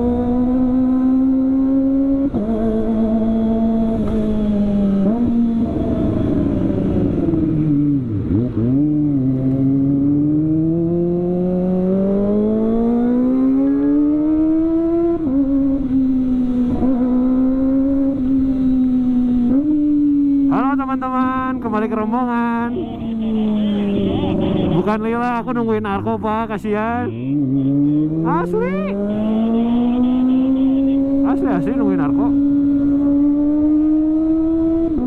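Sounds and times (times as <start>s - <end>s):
motorcycle engine at high revs: 0.0s - 25.5s, 26.3s - 35.0s.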